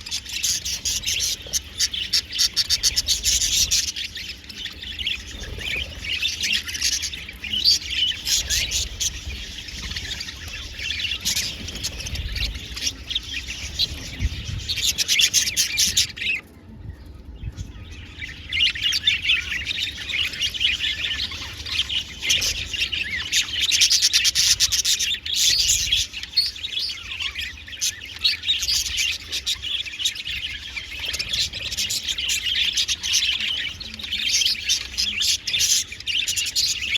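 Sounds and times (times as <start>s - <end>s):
budgerigars chattering: 0.0s - 16.5s, 17.6s - 36.9s.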